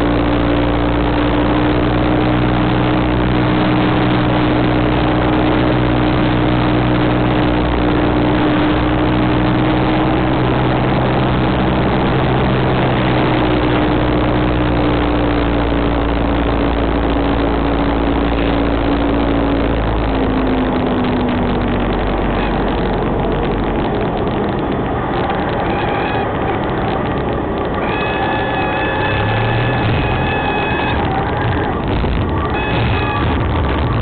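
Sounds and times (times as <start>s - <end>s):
airplane engine and propeller: 0.0s - 34.0s
rushing noise: 0.0s - 34.0s.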